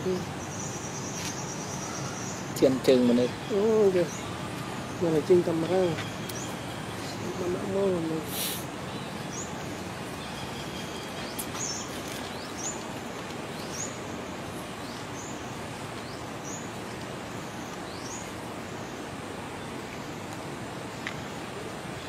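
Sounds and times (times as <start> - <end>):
bird chirping: 0.0 - 19.0
steady background noise: 0.0 - 22.0.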